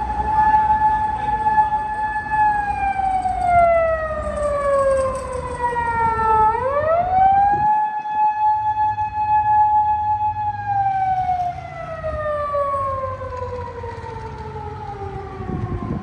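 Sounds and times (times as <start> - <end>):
emergency vehicle siren wailing: 0.0 - 16.0
low traffic rumble: 0.0 - 16.0.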